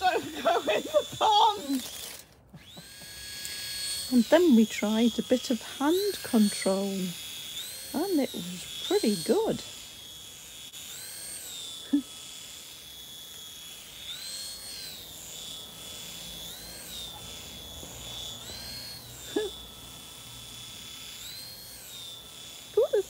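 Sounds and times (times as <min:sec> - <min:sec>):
toy helicopter motors whining: 0:00.0 - 0:23.0.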